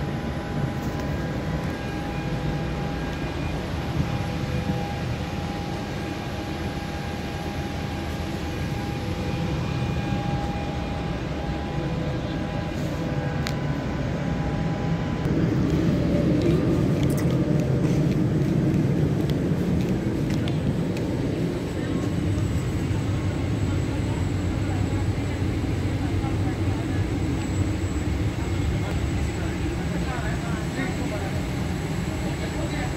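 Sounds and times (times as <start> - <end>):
faint steady tones: 0.0 - 32.9.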